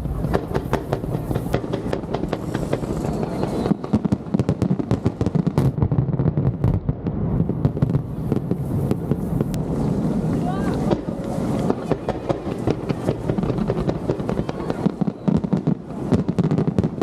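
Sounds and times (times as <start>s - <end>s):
fireworks crackling and bursting: 0.0s - 17.0s.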